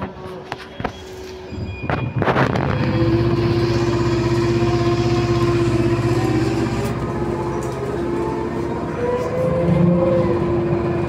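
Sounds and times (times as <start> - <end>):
electrical whine: 0.0 - 11.0
low hum: 1.7 - 11.0.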